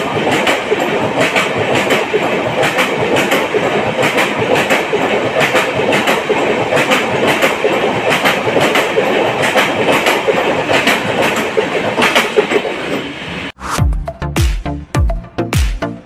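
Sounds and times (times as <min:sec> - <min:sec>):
wheels clacking on rail joints: 0:00.0 - 0:13.2
train rumbling past: 0:00.0 - 0:13.7.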